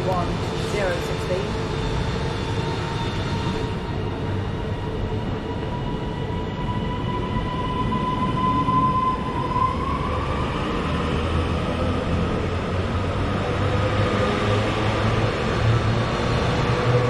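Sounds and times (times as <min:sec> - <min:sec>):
train traction motors whining: 0:00.0 - 0:13.8
wheels rumbling on rail: 0:00.0 - 0:17.0.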